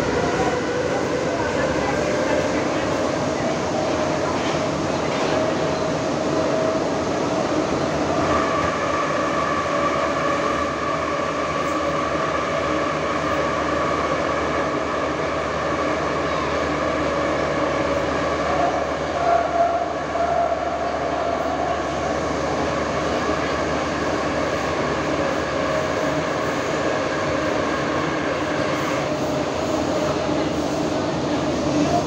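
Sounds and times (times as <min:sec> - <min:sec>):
metro train running noise: 0:00.0 - 0:32.0.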